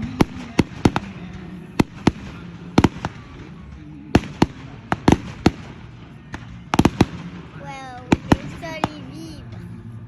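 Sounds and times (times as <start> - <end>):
fireworks bangs and crackles: 0.0 - 9.6
crowd and city background: 0.0 - 10.0.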